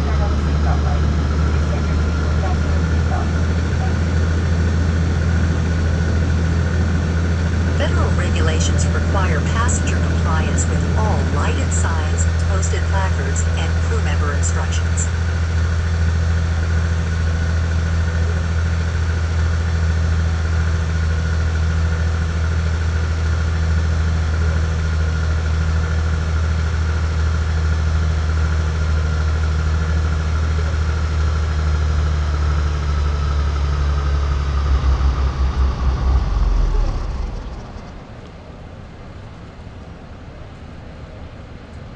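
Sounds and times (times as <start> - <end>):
airliner engines droning: 0.0 - 41.9.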